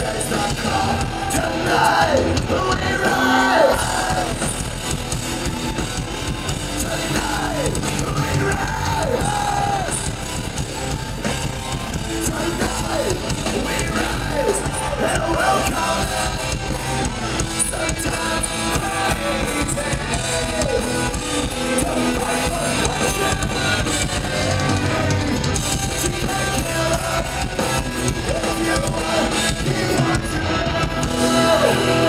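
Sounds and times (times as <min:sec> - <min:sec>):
distorted guitars: 0:00.0 - 0:32.0
drums: 0:00.0 - 0:32.0.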